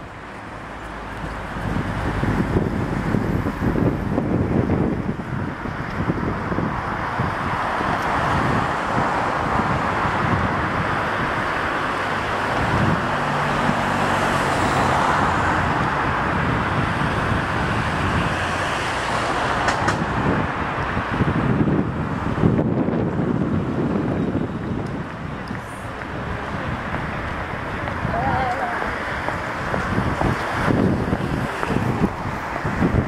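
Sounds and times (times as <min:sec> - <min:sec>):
city road traffic: 0:00.0 - 0:33.0
vehicle engine hum: 0:00.0 - 0:33.0
wind buffeting microphone: 0:00.0 - 0:33.0.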